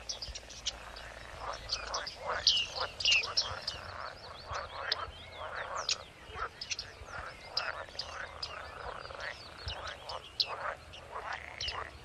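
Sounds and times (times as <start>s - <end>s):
frogs croaking: 0.0s - 12.0s
high bird calls: 0.0s - 12.0s.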